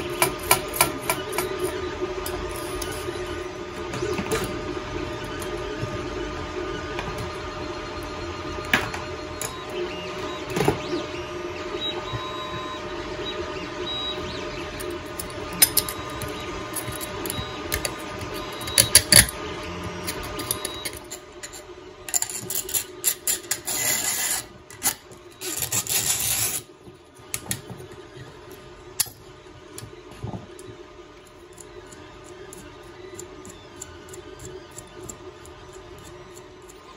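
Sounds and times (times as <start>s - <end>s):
stepper motors whirring: 0.0s - 36.9s.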